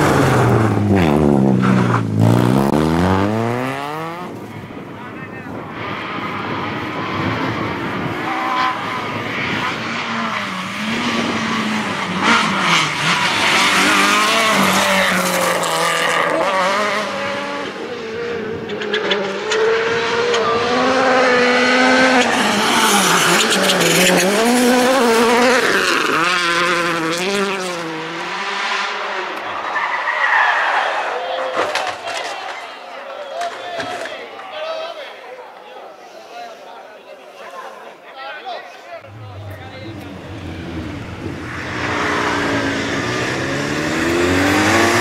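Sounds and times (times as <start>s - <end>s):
rally car engines revving: 0.0s - 32.3s, 39.0s - 45.0s
tyre and road noise: 0.0s - 34.9s, 39.0s - 45.0s.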